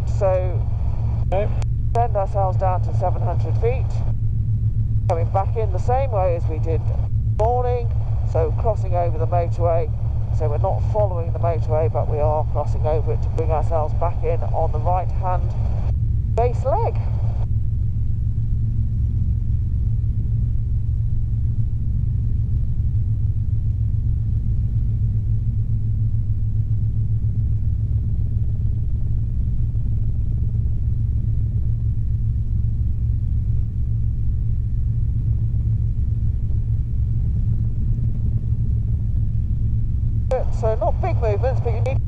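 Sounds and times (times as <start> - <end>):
helicopter cabin drone: 0.0 - 42.0.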